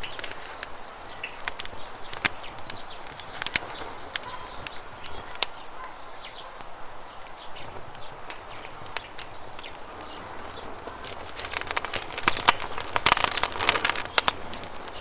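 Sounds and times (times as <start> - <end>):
campfire crackling: 0.0 - 15.0
small birds chirping: 0.0 - 15.0.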